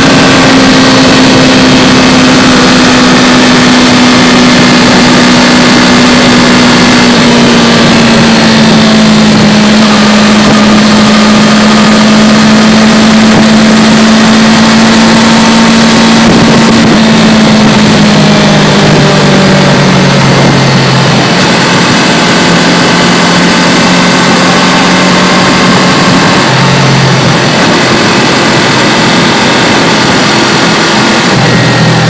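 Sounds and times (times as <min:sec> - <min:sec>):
motorcycle engine cruising: 0:00.0 - 0:32.0
wind rush: 0:00.0 - 0:32.0.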